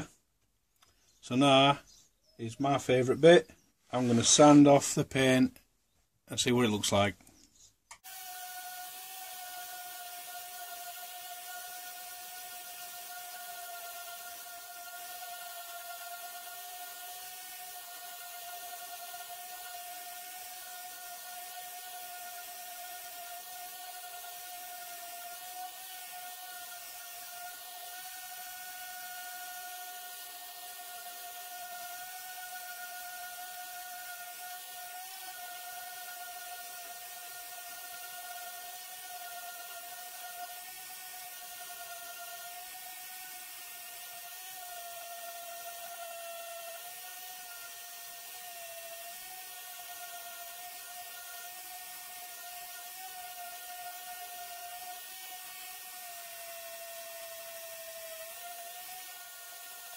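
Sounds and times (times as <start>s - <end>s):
orbital sander whining: 1.1s - 5.4s, 7.9s - 59.9s.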